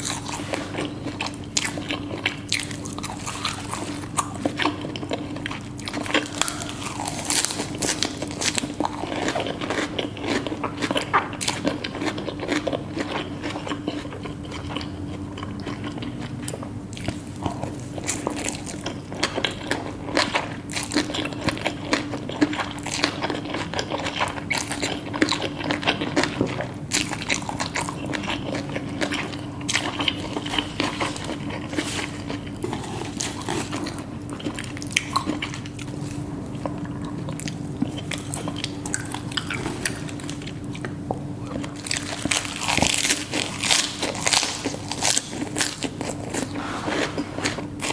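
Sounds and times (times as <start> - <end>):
crunchy bites and chewing: 0.0 - 47.9.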